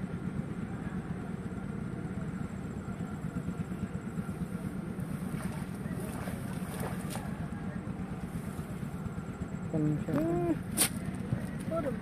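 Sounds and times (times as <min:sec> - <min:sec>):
small engine droning: 0:00.0 - 0:12.0.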